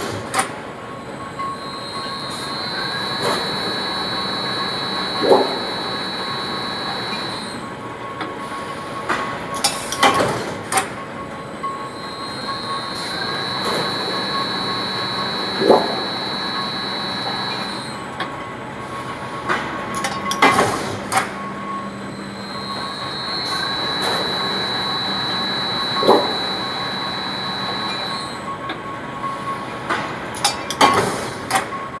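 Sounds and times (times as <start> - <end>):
machinery high-pitched whine: 0.0 - 9.6, 10.9 - 29.8.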